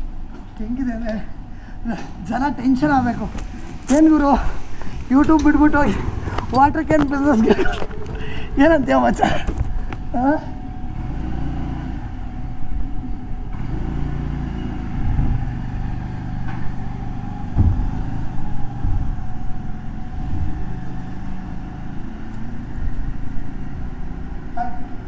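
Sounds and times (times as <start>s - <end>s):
motorcycle engine revving: 2.8s - 24.4s.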